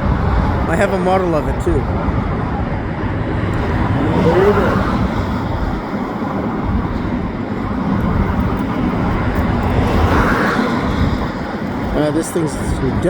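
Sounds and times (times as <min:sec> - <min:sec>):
highway traffic: 0:00.0 - 0:13.0.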